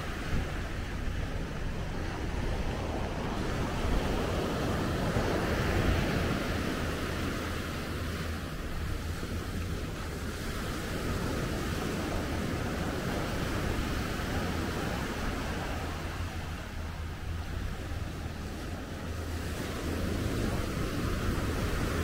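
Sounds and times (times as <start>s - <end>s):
surf washing onto beach: 0.0s - 22.0s
wind rumble on microphone: 0.0s - 22.0s.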